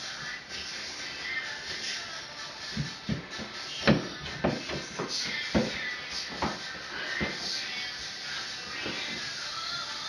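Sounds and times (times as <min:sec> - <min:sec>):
background music with a beat: 0:00.0 - 0:10.0.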